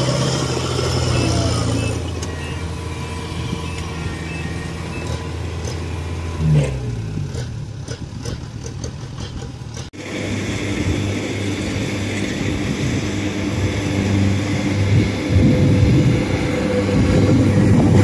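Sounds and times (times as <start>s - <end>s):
combine harvester engine running: 0.0s - 18.0s.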